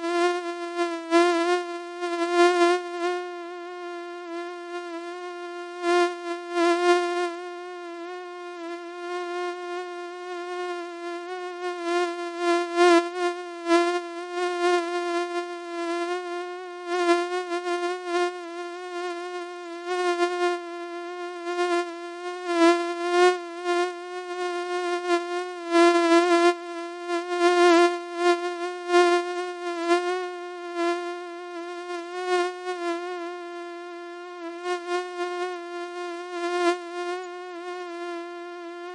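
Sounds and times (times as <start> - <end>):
mosquito buzzing whine: 0.0 - 38.9.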